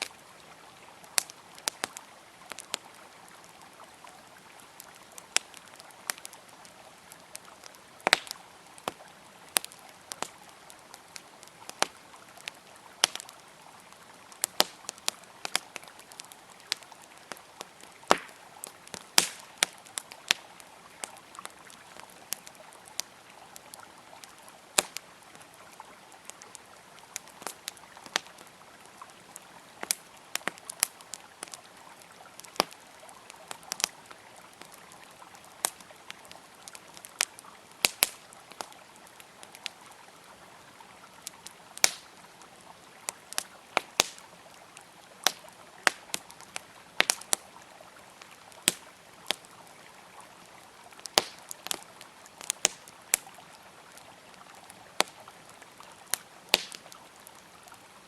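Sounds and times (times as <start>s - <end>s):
campfire crackling and popping: 0.0s - 58.0s
river flowing: 0.0s - 58.0s.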